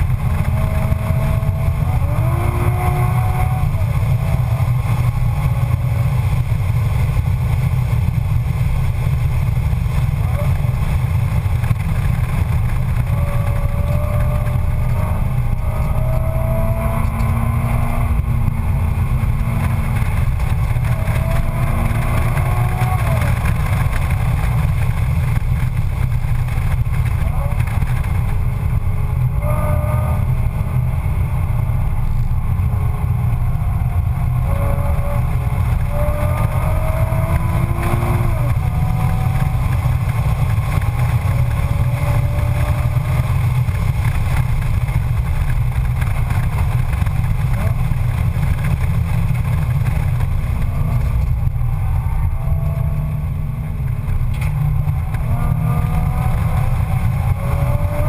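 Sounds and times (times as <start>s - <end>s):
car engine accelerating and shifting: 0.0s - 58.0s
road and engine rumble: 0.0s - 58.0s.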